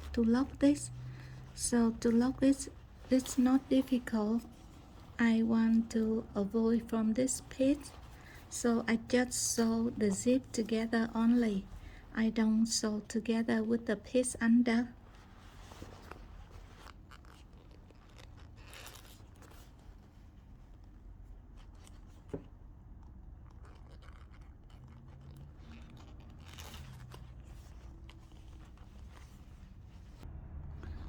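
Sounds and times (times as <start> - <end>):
rustling of zip and leather: 0.0 - 13.0, 14.7 - 30.2
low room hum: 0.0 - 31.0.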